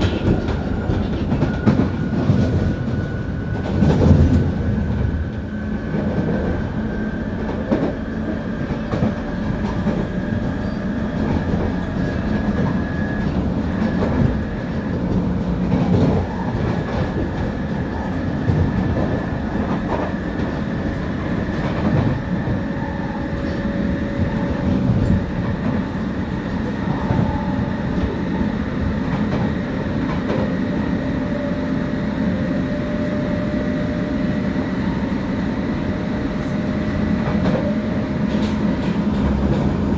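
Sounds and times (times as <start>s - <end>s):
train knocks: 0.0s - 30.9s, 36.1s - 39.9s
train traction motor whine: 0.0s - 39.9s
wheels rumbling on track: 0.0s - 39.9s.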